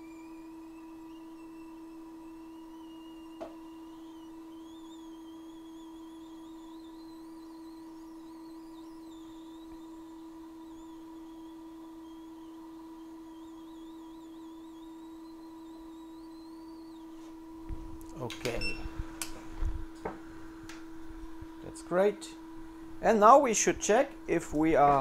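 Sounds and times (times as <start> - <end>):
electrical hum: 0.0 - 25.0
high whine: 0.0 - 25.0.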